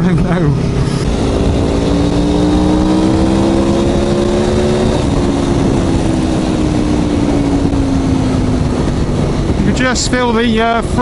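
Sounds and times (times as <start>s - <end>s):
motorcycle engine accelerating: 0.0s - 11.0s
wind rushing over microphone: 0.0s - 11.0s.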